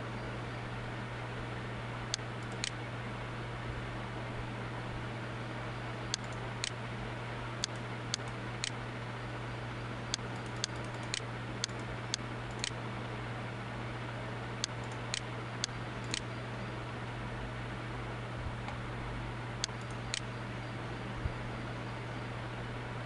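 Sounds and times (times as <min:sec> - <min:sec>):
low hum and hiss: 0:00.0 - 0:23.0.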